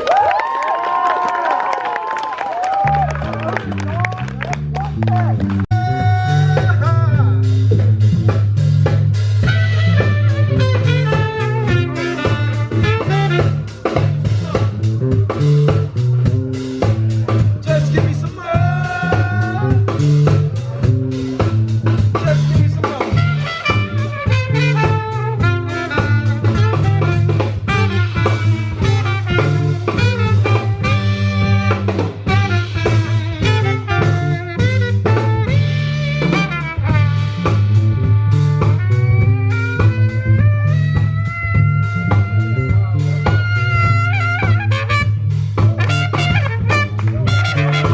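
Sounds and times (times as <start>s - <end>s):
live jazz band: 2.6s - 47.9s.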